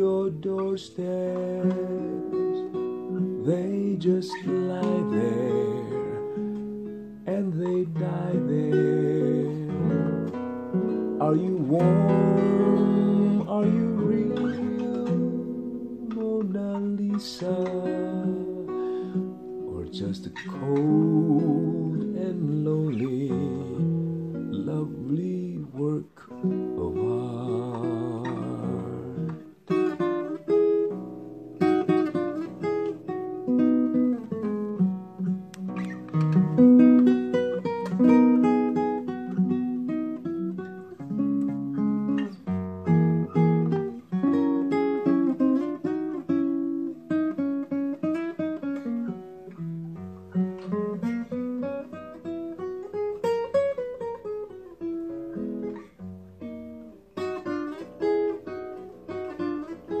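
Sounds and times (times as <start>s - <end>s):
classical guitar playing: 0.0s - 60.0s.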